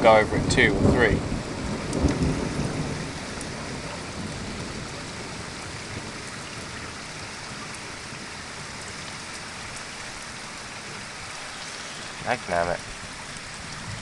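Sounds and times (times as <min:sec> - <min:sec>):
low thunder rumble: 0:00.0 - 0:09.8, 0:12.2 - 0:14.0
heavy rain hiss: 0:00.0 - 0:14.0.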